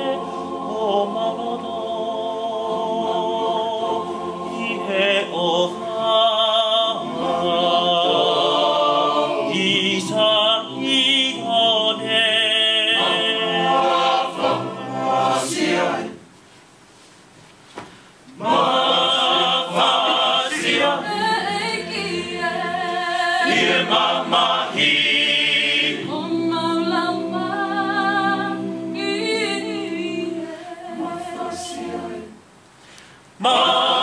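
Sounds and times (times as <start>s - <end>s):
male choir singing a cappella: 0.0s - 16.2s, 18.3s - 32.4s, 33.4s - 34.0s.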